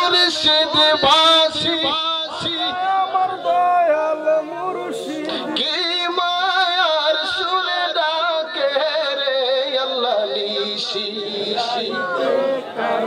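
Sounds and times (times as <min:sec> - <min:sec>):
man singing devotional song: 0:00.0 - 0:12.7.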